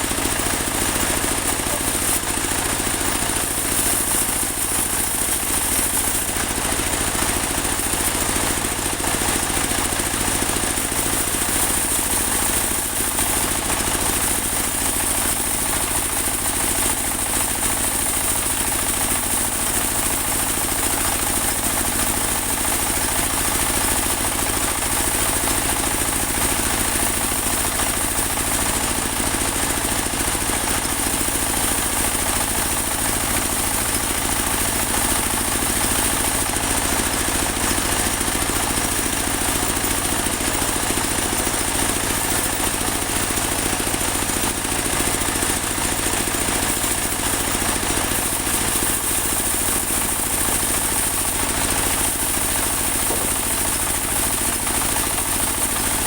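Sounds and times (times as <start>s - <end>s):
sawmill engine droning: 0.0s - 56.0s.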